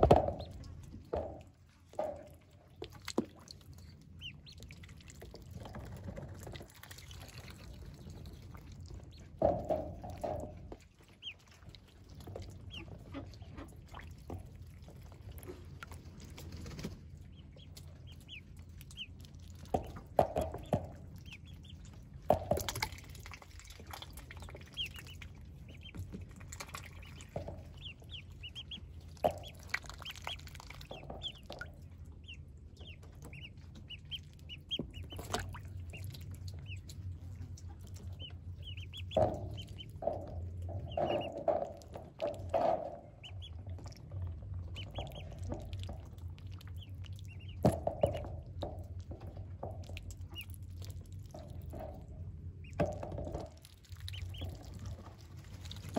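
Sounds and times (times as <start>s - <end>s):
ducklings peeping: 0.0s - 55.9s
knocks and splashes in water tub: 0.0s - 55.9s.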